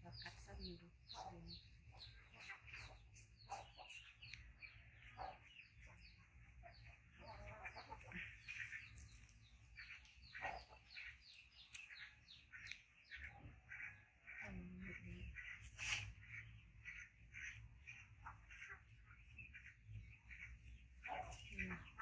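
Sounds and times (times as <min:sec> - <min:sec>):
small bird chirping: 0:00.0 - 0:22.0.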